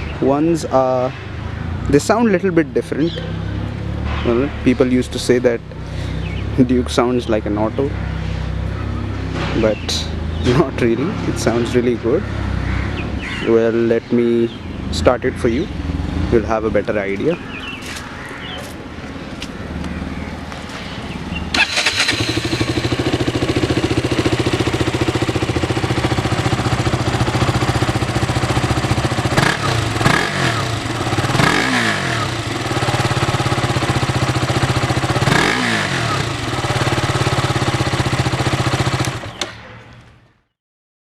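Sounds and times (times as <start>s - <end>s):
motorcycle engine idling and revving: 0.0s - 40.2s.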